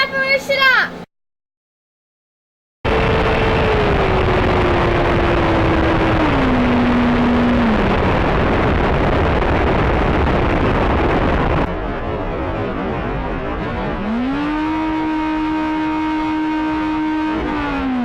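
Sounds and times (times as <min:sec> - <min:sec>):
ducted-fan jet whining: 0:00.0 - 0:01.1, 0:02.9 - 0:18.0.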